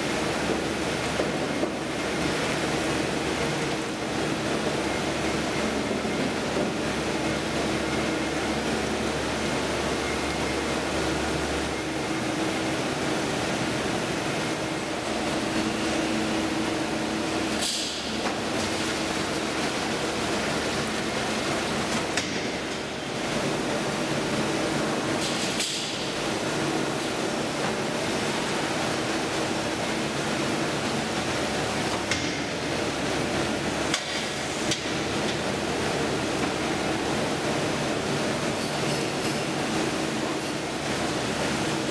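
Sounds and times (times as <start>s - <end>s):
machine hum and hiss: 0.0s - 41.9s.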